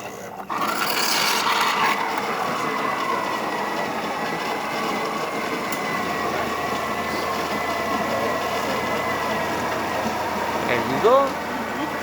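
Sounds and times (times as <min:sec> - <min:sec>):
low pump buzz: 0:00.0 - 0:12.0
espresso machine hum and whine: 0:00.5 - 0:12.0.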